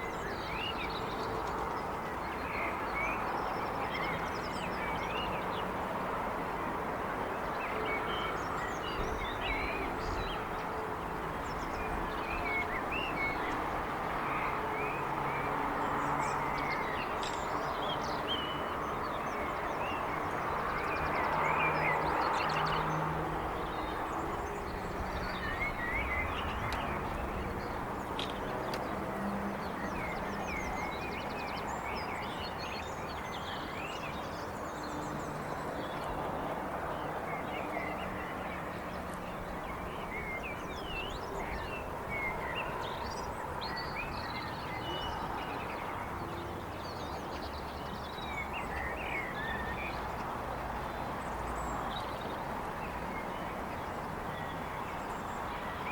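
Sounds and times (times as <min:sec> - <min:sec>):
distant traffic noise: 0:00.0 - 0:55.9.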